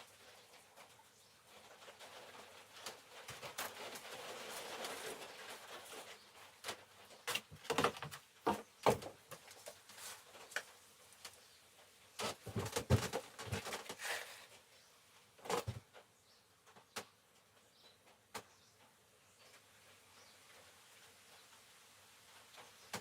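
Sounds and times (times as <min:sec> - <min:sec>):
soft rustling hiss: 0:00.0 - 0:23.0.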